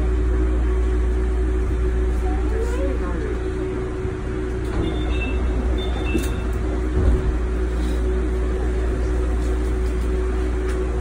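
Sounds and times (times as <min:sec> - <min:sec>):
constant hum: 0:00.0 - 0:11.0
monorail rumble: 0:00.0 - 0:11.0.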